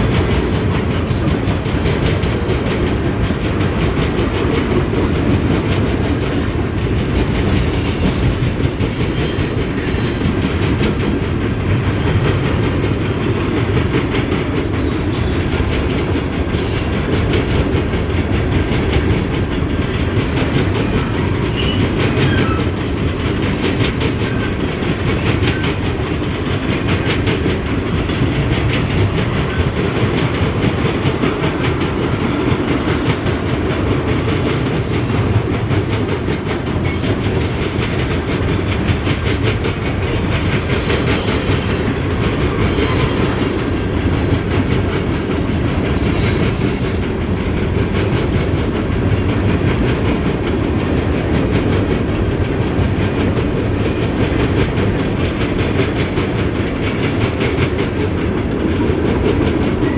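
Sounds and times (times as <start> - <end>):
train wheels clacking over rails: 0.0 - 59.9.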